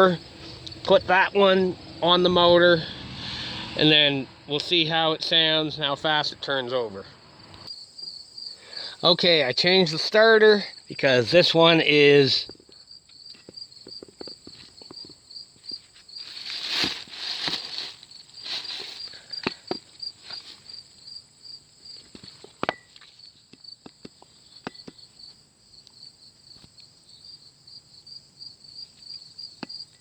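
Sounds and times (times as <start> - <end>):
insects chirping: 0.0 - 3.6, 5.4 - 30.0.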